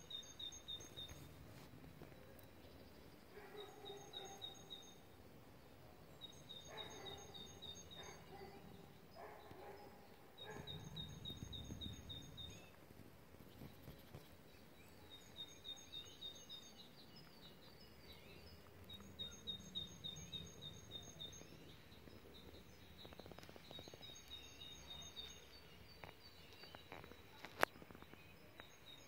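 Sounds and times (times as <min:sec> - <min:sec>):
songbird chirping faintly: 0:00.0 - 0:29.0.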